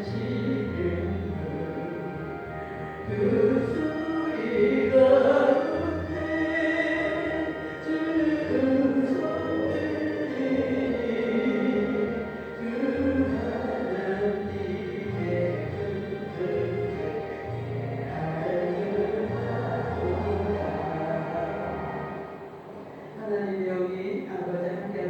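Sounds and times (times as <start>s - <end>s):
group singing a hymn: 0.0s - 23.1s
sustained instrumental backing: 0.0s - 23.2s.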